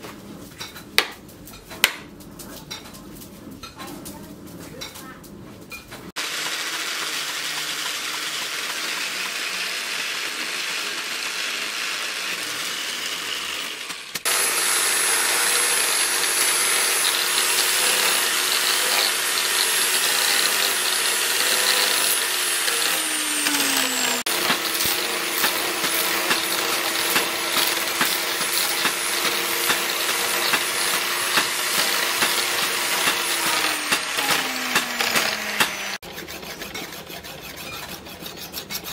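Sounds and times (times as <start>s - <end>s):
angle grinder sanding wood: 6.2s - 38.9s.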